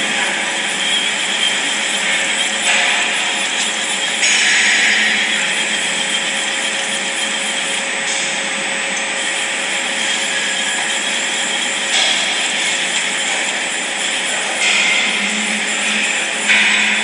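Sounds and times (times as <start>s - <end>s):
machine spindle whine: 0.0s - 17.0s.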